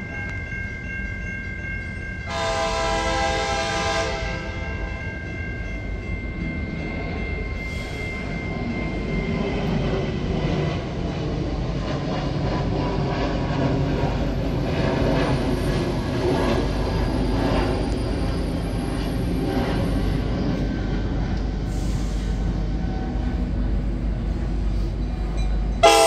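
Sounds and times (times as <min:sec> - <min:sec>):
diesel locomotive engine rumbling: 0:00.0 - 0:26.0.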